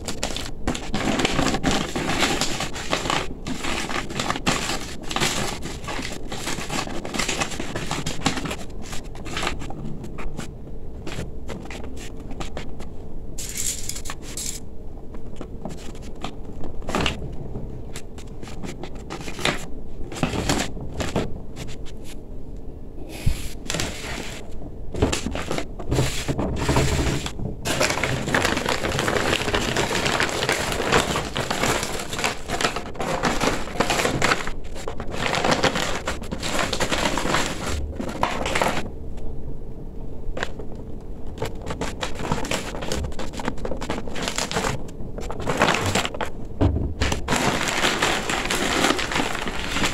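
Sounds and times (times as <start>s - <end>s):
stiff fabric crinkling and rustling: 0.0s - 22.2s, 23.5s - 38.9s, 40.3s - 49.9s.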